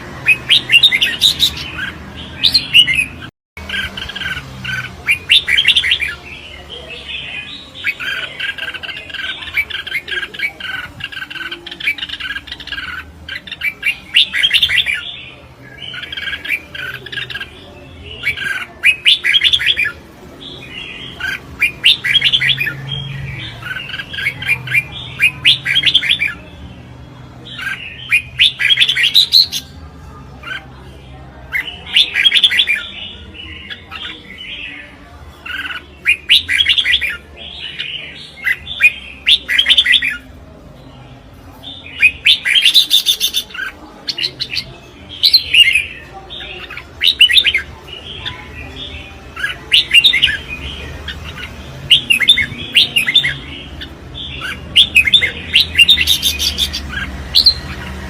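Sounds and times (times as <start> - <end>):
bulbuls singing: 0.0 - 58.0.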